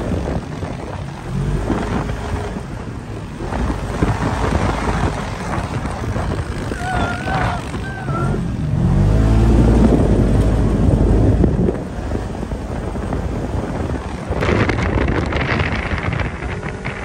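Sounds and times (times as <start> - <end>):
off-road vehicle engine: 0.0 - 17.0
wind buffeting microphone: 0.0 - 17.0.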